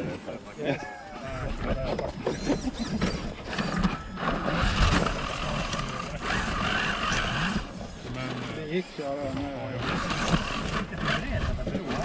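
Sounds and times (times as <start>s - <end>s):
toy motor and gears whining: 1.3s - 12.0s.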